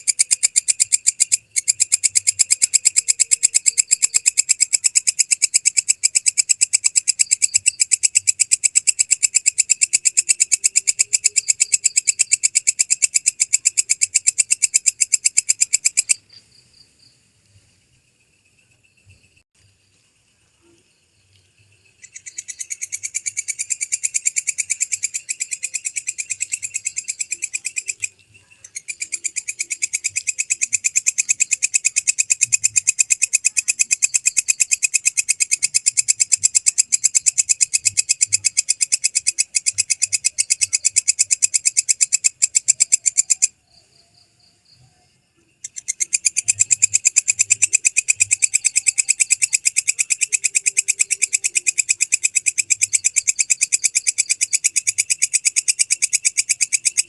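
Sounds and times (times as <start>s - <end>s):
bush cricket buzzing trill: 0.0s - 17.2s, 18.0s - 57.0s.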